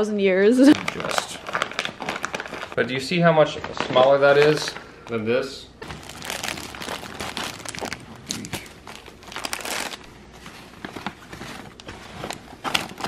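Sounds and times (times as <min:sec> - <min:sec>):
plastic packaging crinkling: 0:00.7 - 0:05.2, 0:05.8 - 0:13.0.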